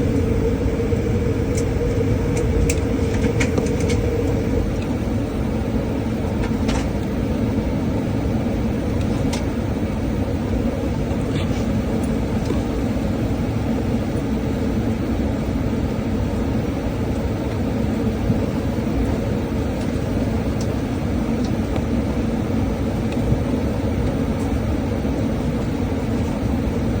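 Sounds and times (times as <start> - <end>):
jet engines and airflow rumble: 0.0 - 27.0.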